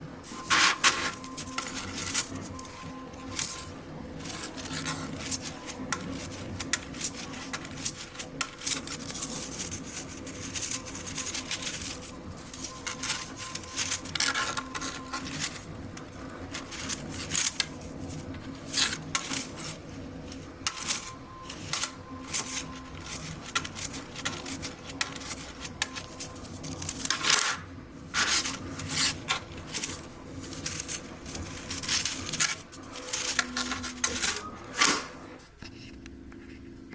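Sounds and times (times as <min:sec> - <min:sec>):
steady background hum: 0:00.0 - 0:36.9.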